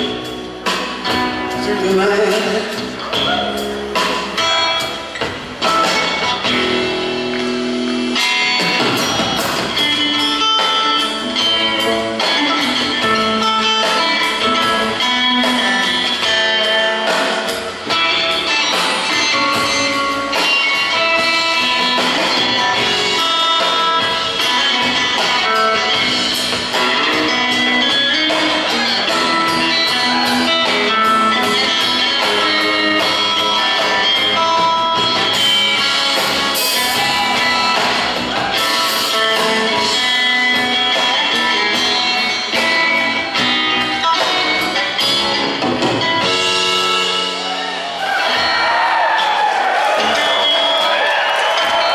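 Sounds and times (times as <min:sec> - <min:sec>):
upright bass: 0:00.0 - 0:50.8
drums: 0:00.0 - 0:51.9
electric guitar: 0:00.0 - 0:51.9.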